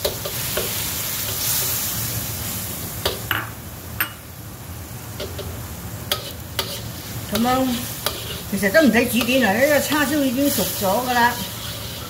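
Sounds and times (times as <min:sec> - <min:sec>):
sauce boiling and sizzling: 0:00.0 - 0:12.0.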